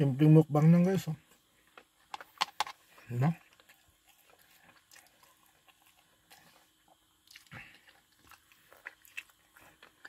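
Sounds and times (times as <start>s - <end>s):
faint chewing of food: 1.2s - 10.0s.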